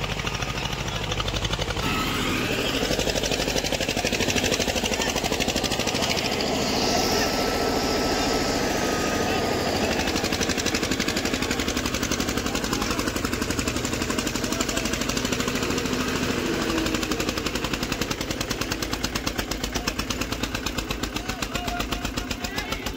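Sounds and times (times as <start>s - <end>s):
diesel tractor engine thudding: 0.0s - 22.9s.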